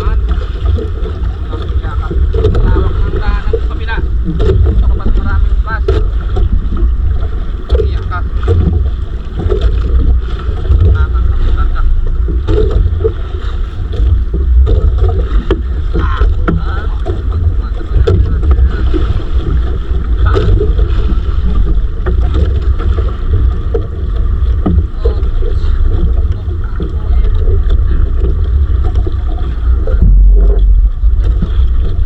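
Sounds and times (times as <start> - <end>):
wind and water rumble on microphone: 0.0 - 32.0
knocks from boat hull and gear: 4.3 - 11.1, 12.3 - 13.2, 13.9 - 32.0.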